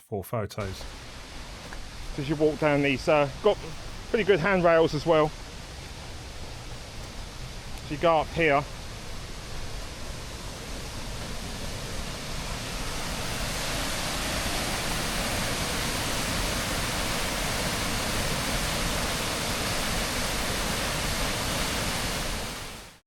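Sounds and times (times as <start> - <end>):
fast-flowing river water: 0.8 - 23.0.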